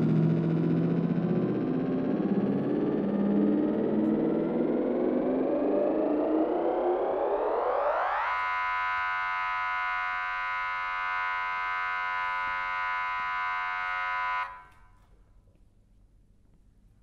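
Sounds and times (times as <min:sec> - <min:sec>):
electric guitar buzzing drone: 0:00.0 - 0:14.7.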